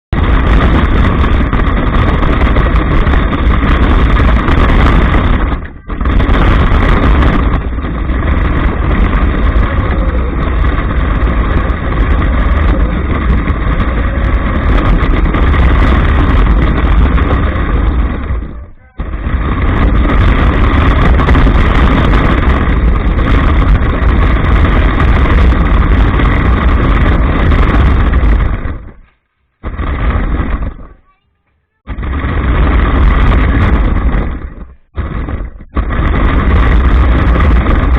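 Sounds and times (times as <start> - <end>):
chassis rumble and rattle: 0.0 - 37.9
tyre and wind noise: 0.0 - 37.9.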